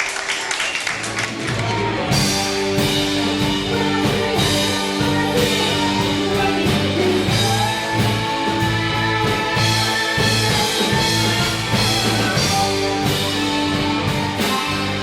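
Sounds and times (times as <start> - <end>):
rock music with drum kit: 1.2 - 15.0.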